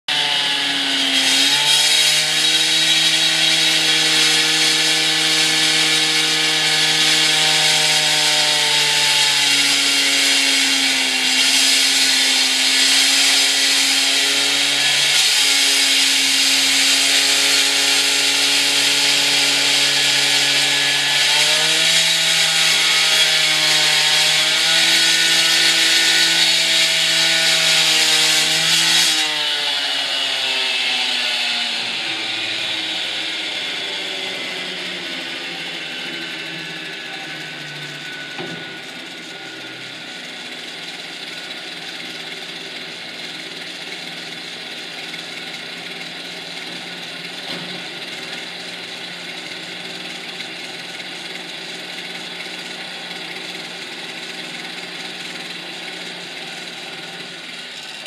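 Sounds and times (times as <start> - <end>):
power saw cutting: 0.0 - 58.0.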